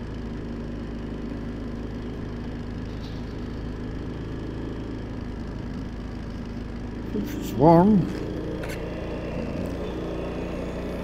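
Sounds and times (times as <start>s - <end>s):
motorcycle engine cruising: 0.0s - 11.0s
road noise: 0.0s - 11.0s.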